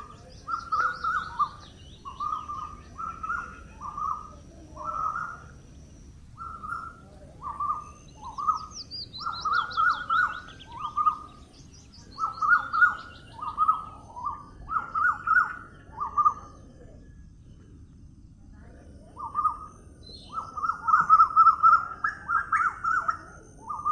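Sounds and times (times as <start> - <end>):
bird chirps: 0.0 - 23.9.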